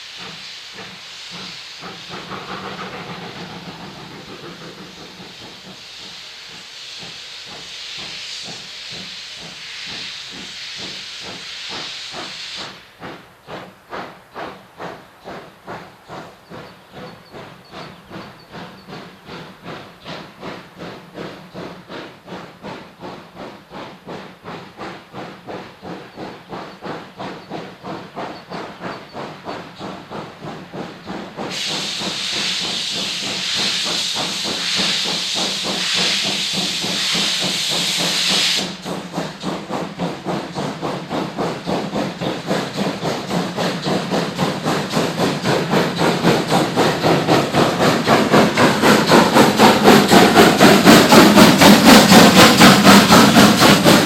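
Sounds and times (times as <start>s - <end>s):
loud steam hiss: 0.0s - 54.0s
steam locomotive exhaust beating: 0.0s - 54.0s.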